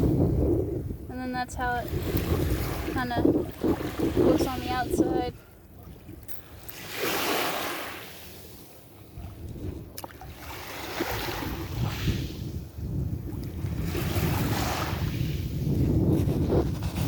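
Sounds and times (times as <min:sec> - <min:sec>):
wind rumbling on microphone: 0:00.0 - 0:17.0
small waves washing ashore: 0:01.1 - 0:17.0.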